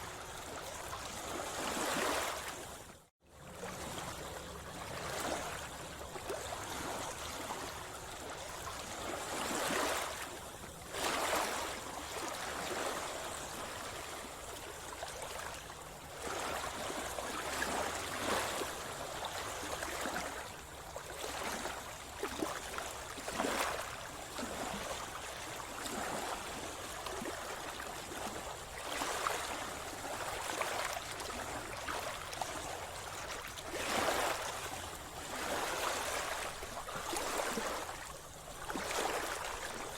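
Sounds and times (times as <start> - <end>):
water splashes: 0.0 - 2.9, 3.5 - 39.9
sea water sloshing and gurgling: 0.0 - 39.9.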